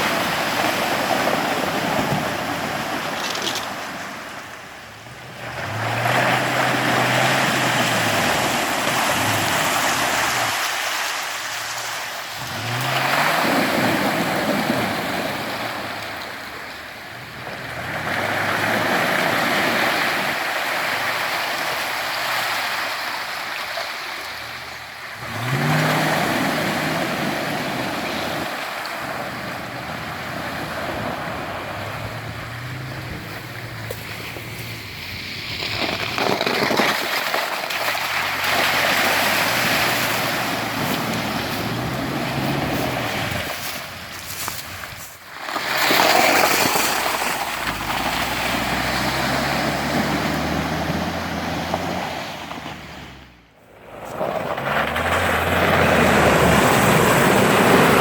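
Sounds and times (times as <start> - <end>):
wheels splashing through mud: 0.0 - 58.0
off-road engine revving: 4.8 - 22.9, 24.0 - 58.0.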